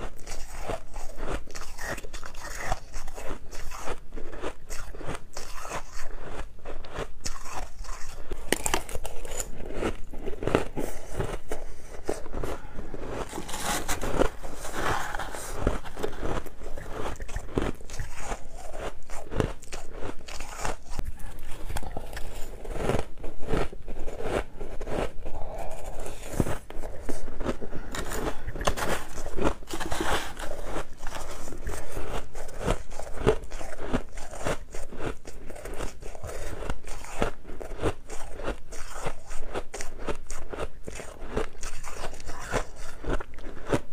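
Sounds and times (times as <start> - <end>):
person crunching ice: 0.0 - 43.9.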